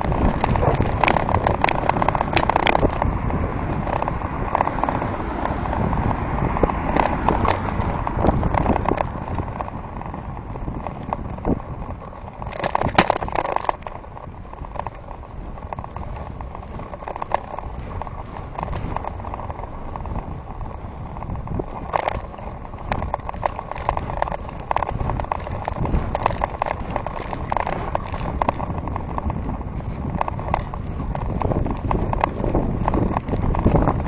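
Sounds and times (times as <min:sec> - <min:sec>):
bicycle tyre noise: 0:00.0 - 0:34.0
bike clicks and rattles: 0:00.0 - 0:34.0
wind rumble on microphone: 0:00.0 - 0:34.0.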